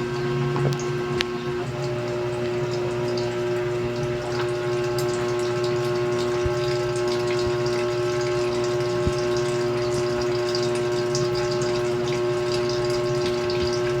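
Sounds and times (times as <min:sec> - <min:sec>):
washing machine humming: 0:00.0 - 0:14.0
water swishing in drum: 0:00.0 - 0:14.0.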